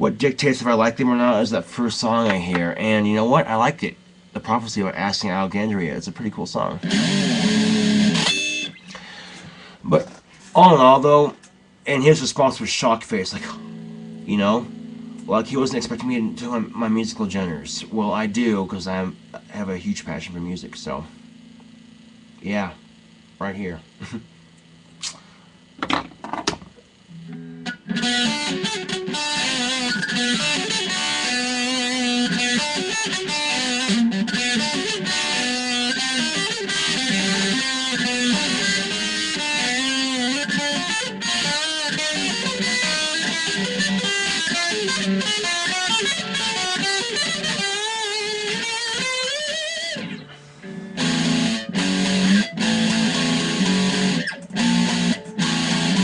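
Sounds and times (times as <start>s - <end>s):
electric guitar playing: 6.8s - 9.7s, 10.5s - 25.8s, 27.0s - 56.0s.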